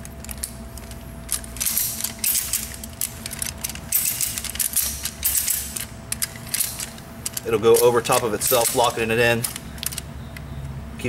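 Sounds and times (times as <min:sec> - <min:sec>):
ratchet strap clicking: 0:00.0 - 0:10.1.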